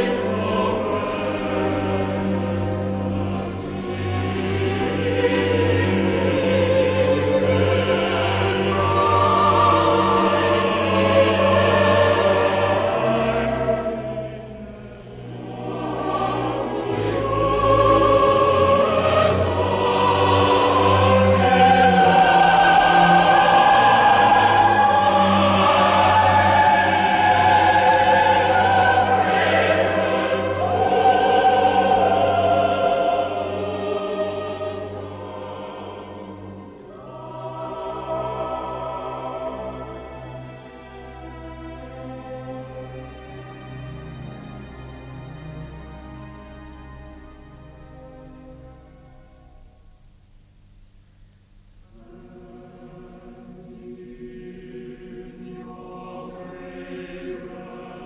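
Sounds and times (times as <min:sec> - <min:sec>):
choir singing: 0:00.0 - 0:49.8, 0:51.8 - 0:58.0
string orchestra: 0:00.0 - 0:58.0.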